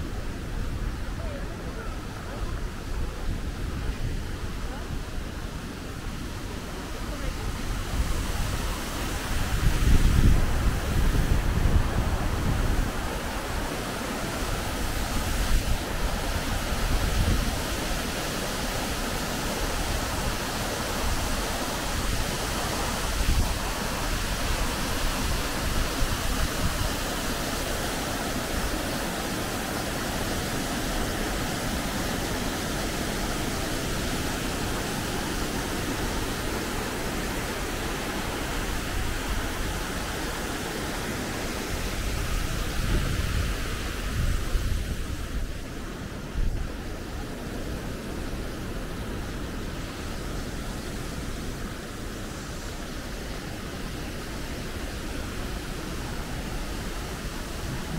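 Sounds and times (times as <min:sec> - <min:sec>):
waterfall rushing: 0:00.0 - 0:57.9
wind buffeting the microphone: 0:00.0 - 0:57.9.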